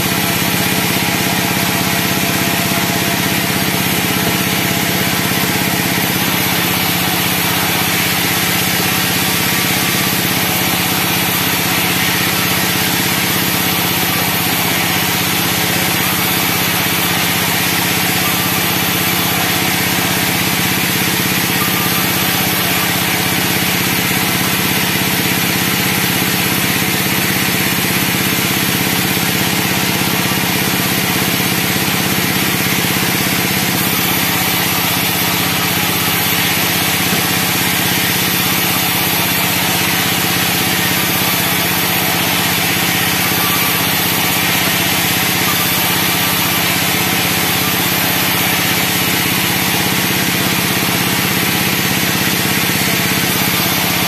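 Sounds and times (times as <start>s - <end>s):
band sawmill running: 0.0s - 54.0s.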